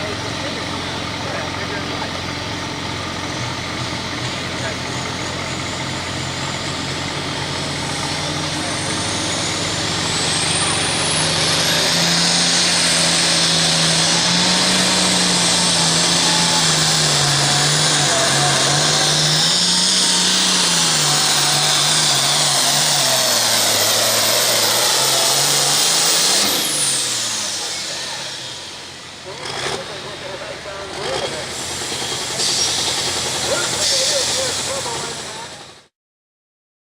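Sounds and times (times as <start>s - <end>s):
high turbo whine: 0.0s - 35.9s
tractor engine at full throttle: 0.0s - 35.9s.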